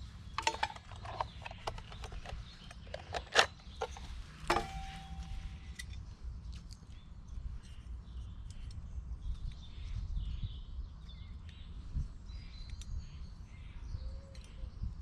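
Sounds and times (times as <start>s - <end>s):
steady low rumble: 0.0s - 14.0s
small birds chirping: 0.0s - 15.0s.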